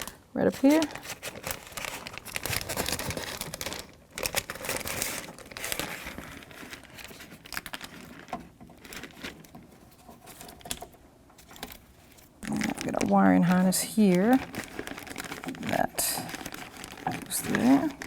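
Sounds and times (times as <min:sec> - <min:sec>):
plastic crinkling and rustling: 0:00.0 - 0:18.0.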